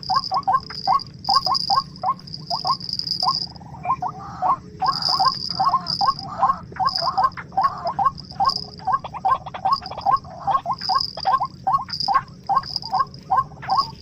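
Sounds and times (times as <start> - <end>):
short repeated animal calls: 0.0 - 14.0.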